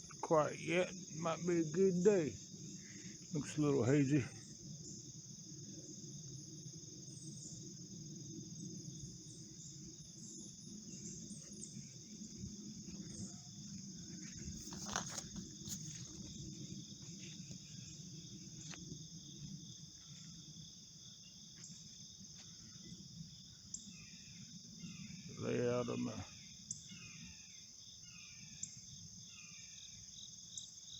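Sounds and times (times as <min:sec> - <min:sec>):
crickets and insects trilling: 0:00.0 - 0:30.9.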